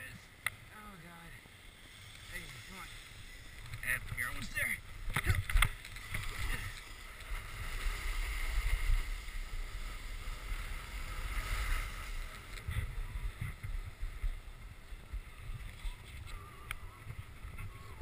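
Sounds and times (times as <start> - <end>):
faint hiss: 0.0 - 18.0
wind buffeting microphone: 2.2 - 18.0.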